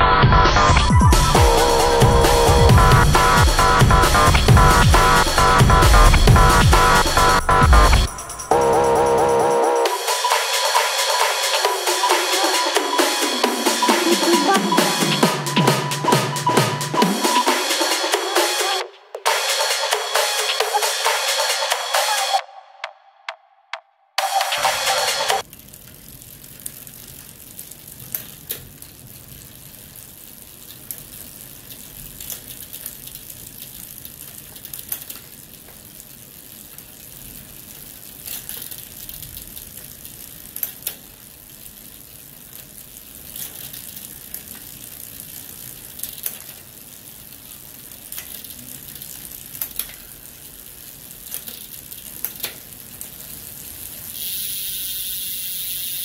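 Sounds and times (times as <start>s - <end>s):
bike wheel and chain whirring: 0.0s - 22.9s, 24.2s - 56.0s.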